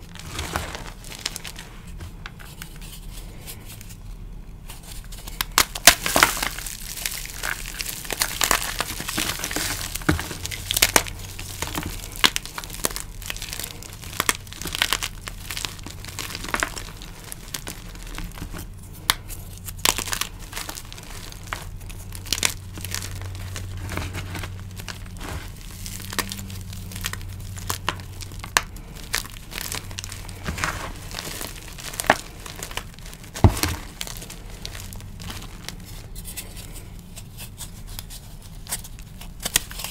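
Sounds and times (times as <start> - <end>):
chalk crunching and crackling: 0.0 - 4.0, 4.7 - 39.9
chalk pieces snapping: 5.2 - 39.9.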